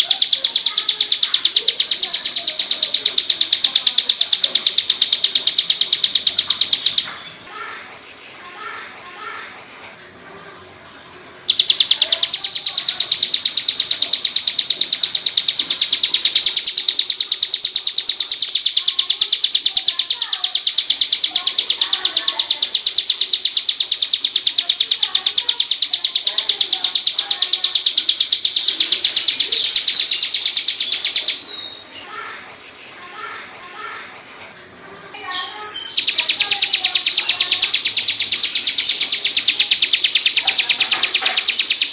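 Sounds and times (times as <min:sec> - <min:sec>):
bird trilling: 0:00.0 - 0:07.4, 0:11.5 - 0:31.9, 0:35.5 - 0:41.9.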